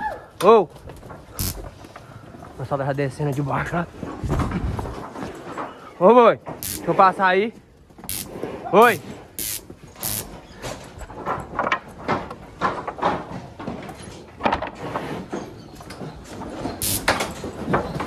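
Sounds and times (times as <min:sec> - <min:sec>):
hooves and gates banging: 0:00.1 - 0:18.0.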